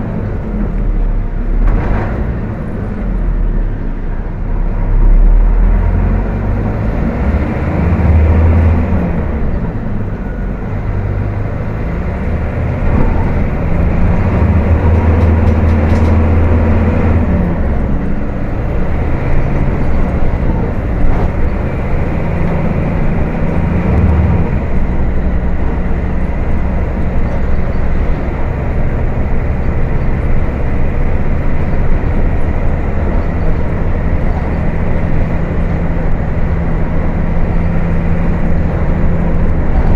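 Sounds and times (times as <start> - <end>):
bus diesel engine revving: 0.0 - 39.9
road rumble: 0.0 - 39.9.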